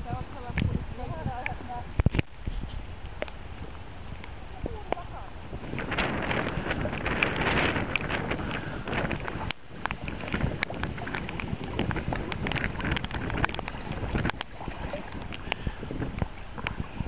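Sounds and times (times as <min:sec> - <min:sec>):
water slapping on hull: 0:00.0 - 0:17.0
water splashing against kayak: 0:00.0 - 0:17.0
wind buffeting microphone: 0:00.0 - 0:17.0.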